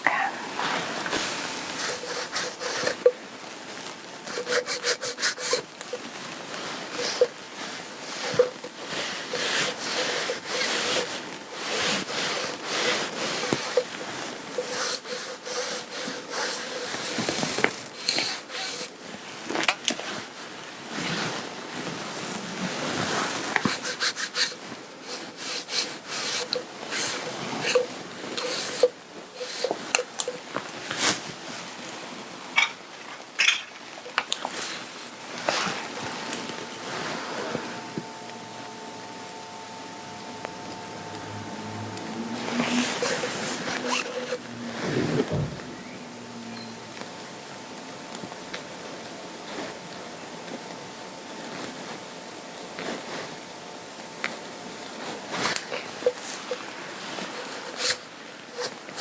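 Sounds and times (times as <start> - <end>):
lint roller rubbing on fabric: 0.4 - 19.4, 20.0 - 32.0, 34.0 - 47.0, 54.9 - 59.0.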